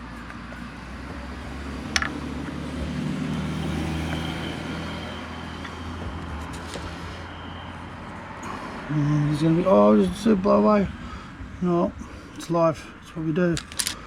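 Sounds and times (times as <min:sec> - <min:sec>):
vehicle engine passing: 0:00.5 - 0:12.0.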